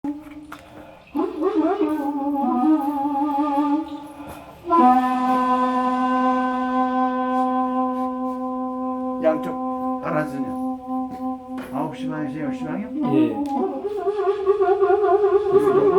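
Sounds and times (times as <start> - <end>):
bamboo flute playing: 1.2 - 15.9.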